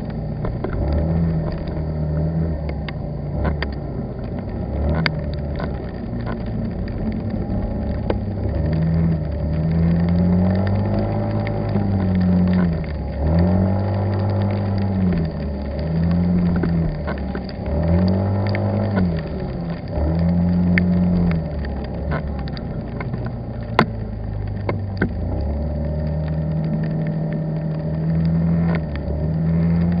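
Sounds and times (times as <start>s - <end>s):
engine revving: 0.0s - 30.0s
sharp ticks: 2.7s - 30.0s.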